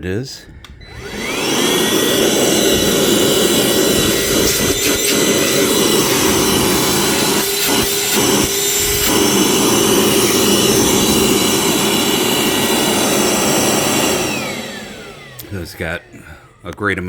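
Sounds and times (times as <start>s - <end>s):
wet dry vacuum running: 0.7s - 17.0s.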